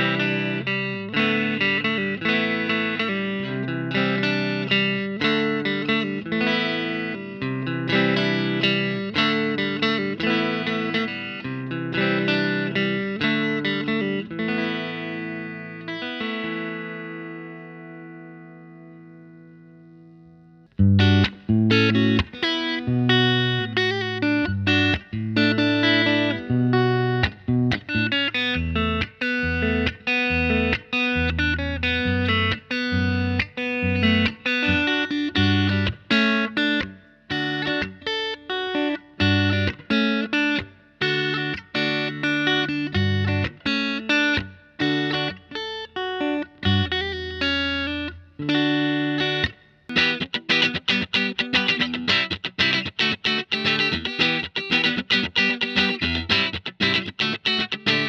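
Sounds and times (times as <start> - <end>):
electric guitar chords and notes: 0.0 - 58.0.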